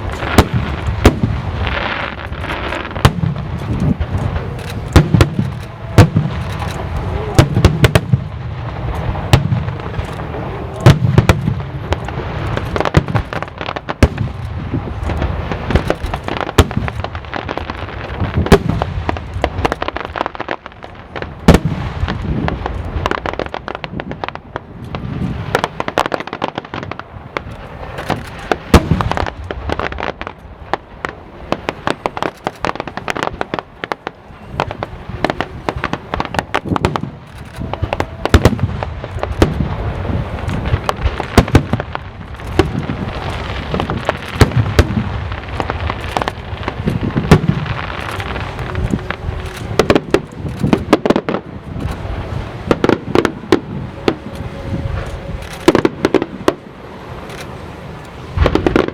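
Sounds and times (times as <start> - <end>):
firework crackling: 0.0 - 58.9.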